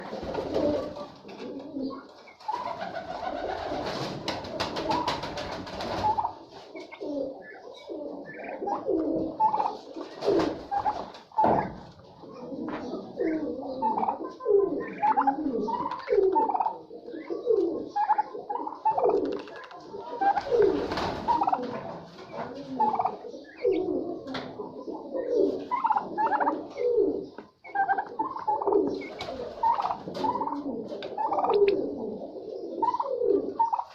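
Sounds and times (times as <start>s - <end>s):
turkeys calling: 0.0s - 33.9s.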